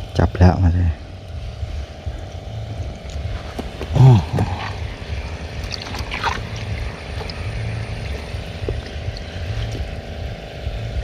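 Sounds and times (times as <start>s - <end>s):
motor low pulsing drone: 0.0s - 11.0s.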